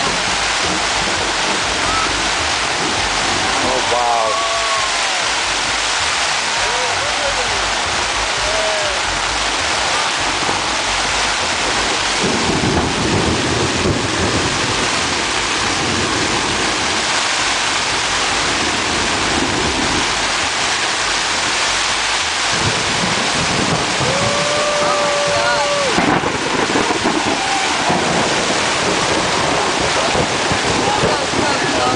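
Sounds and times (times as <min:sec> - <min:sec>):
deep rumbling surges: 0:00.0 - 0:31.9
heavy rain drumming on tent fabric: 0:00.0 - 0:31.9.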